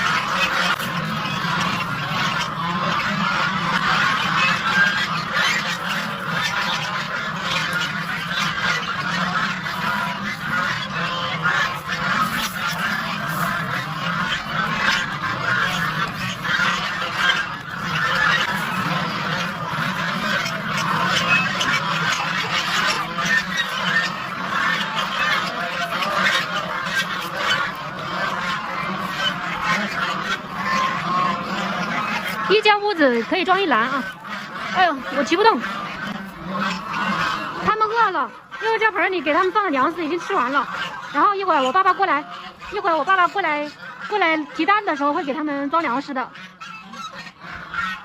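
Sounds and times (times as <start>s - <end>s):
geese honking: 0.0s - 48.0s.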